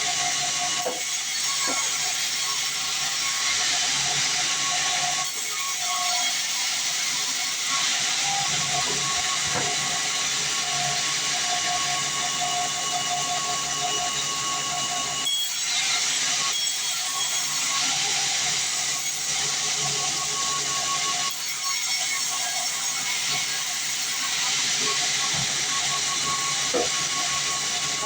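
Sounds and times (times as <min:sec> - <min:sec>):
band saw running: 0:00.0 - 0:28.0.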